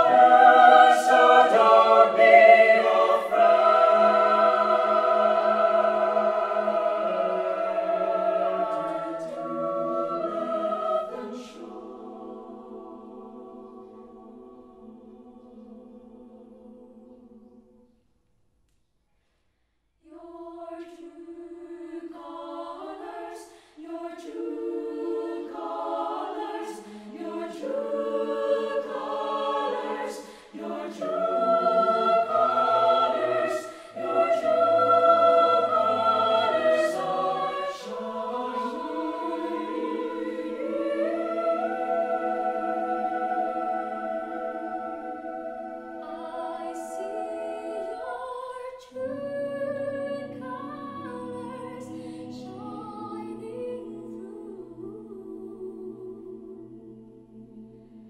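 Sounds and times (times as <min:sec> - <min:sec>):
mixed choir singing a cappella: 0:00.0 - 0:18.0, 0:20.1 - 0:58.0.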